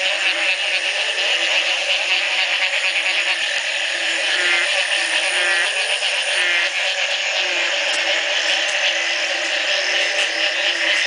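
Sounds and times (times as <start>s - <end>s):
low swooping frog calls: 0.0s - 11.0s
rattling frog calls: 0.0s - 11.0s
shrill pulsing frog trill: 0.0s - 11.0s.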